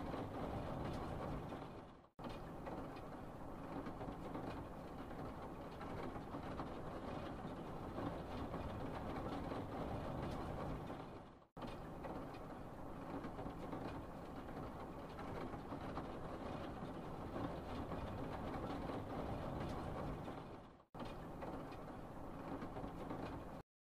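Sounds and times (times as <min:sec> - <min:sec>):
steady rumbling noise: 0:00.0 - 0:23.6.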